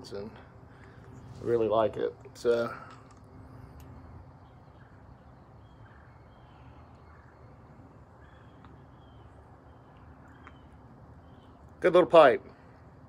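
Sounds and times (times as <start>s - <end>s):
distant bird calls: 0.0s - 13.0s
faint outdoor background noise: 0.0s - 13.0s.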